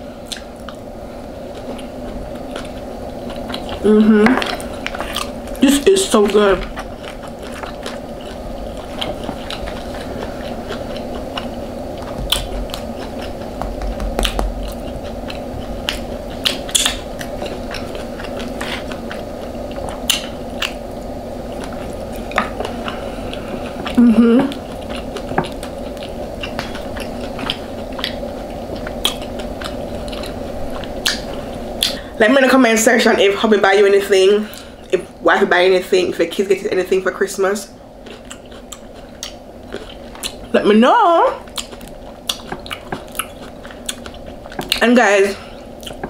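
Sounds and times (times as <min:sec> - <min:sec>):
crunchy chewing of food: 0:00.0 - 0:32.0, 0:37.7 - 0:40.6, 0:41.4 - 0:46.0
steady low hum: 0:00.0 - 0:46.0.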